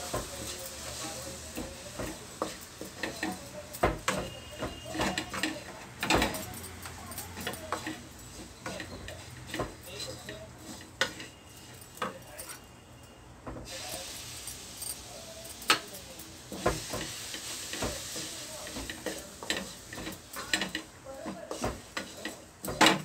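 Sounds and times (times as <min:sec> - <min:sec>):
mixture sizzling in a pan: 0:00.0 - 0:12.0, 0:13.6 - 0:23.0
wooden spatula scraping a pan: 0:00.0 - 0:12.1, 0:16.5 - 0:23.0.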